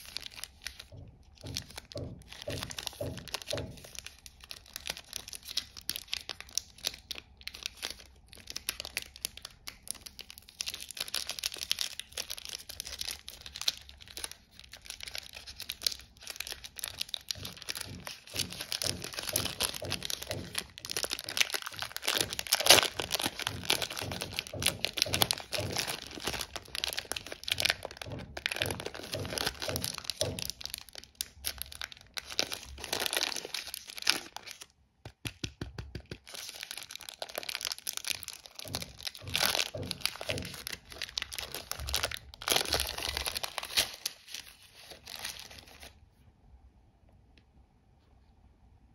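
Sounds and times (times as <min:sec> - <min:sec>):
foil wrappers crinkling: 0:00.0 - 0:35.3, 0:36.0 - 0:46.0.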